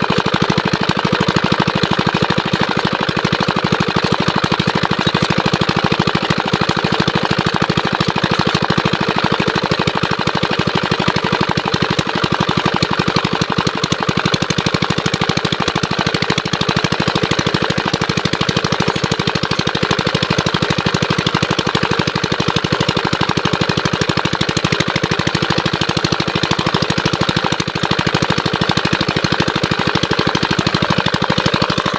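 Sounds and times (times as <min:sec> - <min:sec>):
diesel water pump engine running: 0:00.0 - 0:31.9.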